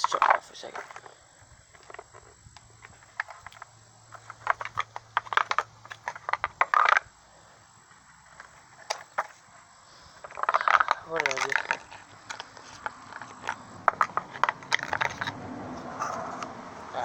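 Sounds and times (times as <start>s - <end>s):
small parts clicking and scraping: 0.0s - 15.4s
rattle: 0.0s - 16.5s.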